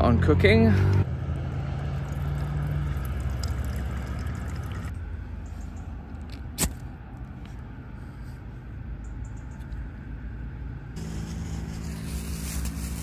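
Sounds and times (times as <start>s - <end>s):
road traffic hiss and hum: 0.0s - 13.0s.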